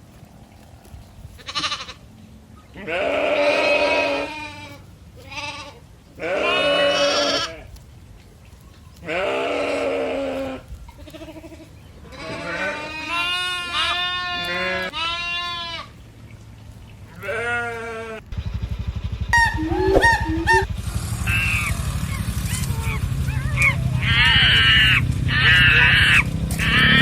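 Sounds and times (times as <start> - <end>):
farm animals bleating: 1.3 - 7.8, 9.0 - 16.0, 17.1 - 18.4, 19.3 - 27.0.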